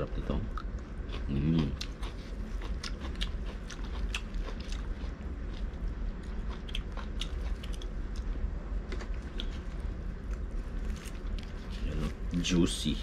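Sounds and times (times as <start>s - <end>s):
steady low hum: 0.0s - 13.0s
person chewing: 0.5s - 12.2s.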